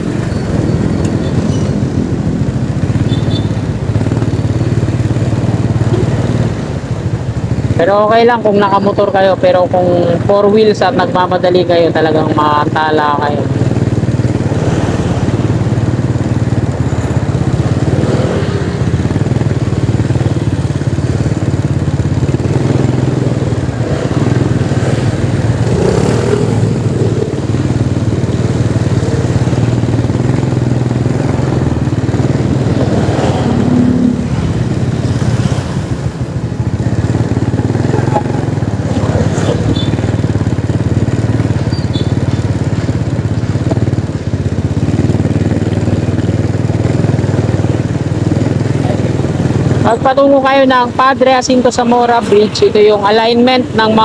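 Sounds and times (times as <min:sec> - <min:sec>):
city street traffic: 0:00.0 - 0:54.0
motorcycle engines running: 0:00.0 - 0:54.0.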